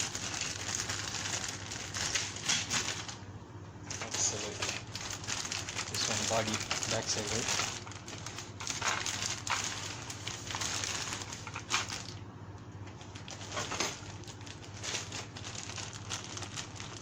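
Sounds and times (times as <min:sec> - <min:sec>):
plastic packaging crinkling: 0:00.0 - 0:03.2, 0:03.9 - 0:17.0.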